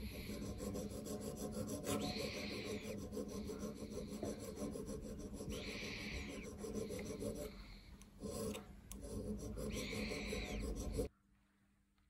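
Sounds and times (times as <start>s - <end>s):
needle file rasping on brass: 0.0s - 11.1s.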